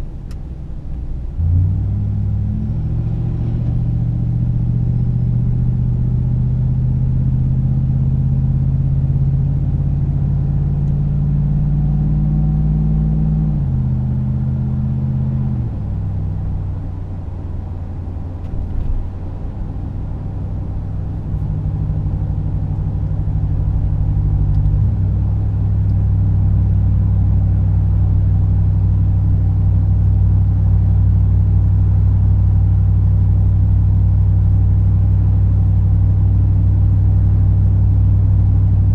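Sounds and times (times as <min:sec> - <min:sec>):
truck engine droning while driving: 0:00.0 - 0:38.9.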